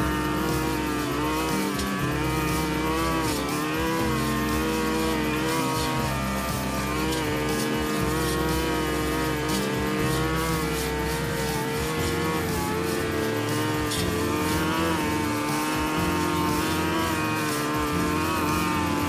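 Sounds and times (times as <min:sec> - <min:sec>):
brush cutter cutting grass: 0:00.0 - 0:19.0.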